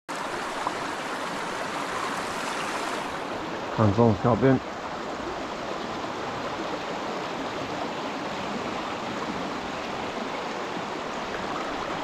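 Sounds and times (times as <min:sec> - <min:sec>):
river water rushing: 0:00.1 - 0:12.0.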